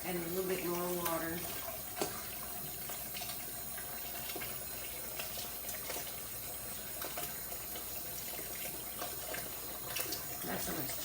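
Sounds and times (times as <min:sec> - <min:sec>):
water running into a pot: 0:00.0 - 0:11.0.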